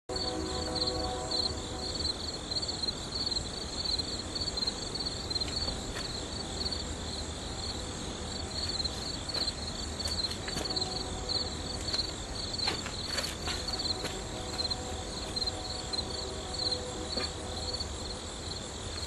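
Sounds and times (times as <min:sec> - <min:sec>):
insects chirping: 0:00.1 - 0:19.0.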